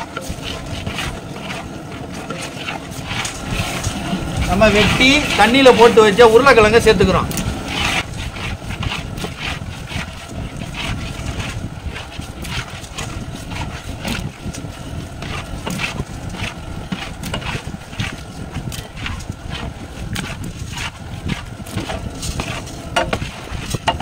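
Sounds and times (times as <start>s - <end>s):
ladle scraping cooking pot: 0.0s - 24.0s
low rumble: 0.0s - 24.0s.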